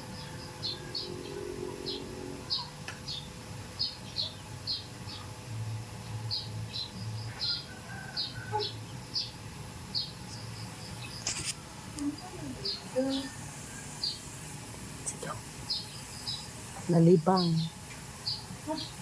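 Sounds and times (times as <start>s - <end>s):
small bird chirping: 0.1s - 5.3s, 6.2s - 14.4s, 15.0s - 19.0s.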